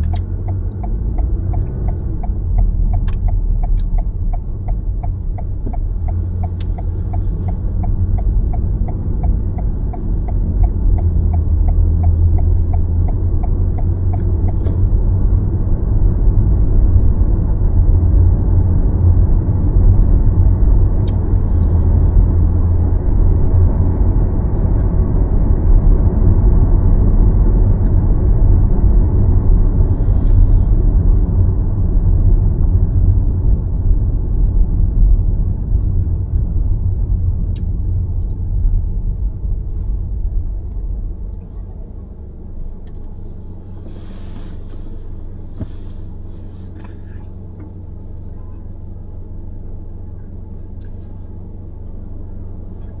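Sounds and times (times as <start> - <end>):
car road and engine rumble: 0.0 - 53.0.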